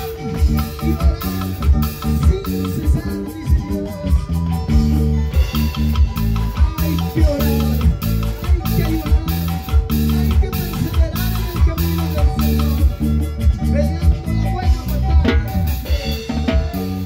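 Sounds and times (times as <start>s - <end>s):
bass: 0.0s - 17.0s
drum kit and cymbal beat: 0.0s - 17.0s.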